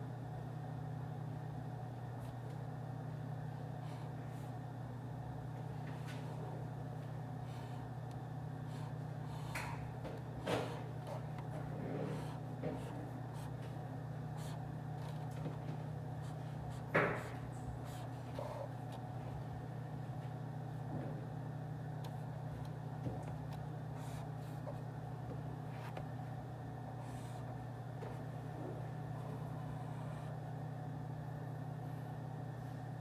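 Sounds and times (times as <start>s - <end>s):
ventilation hum: 0.0s - 33.0s.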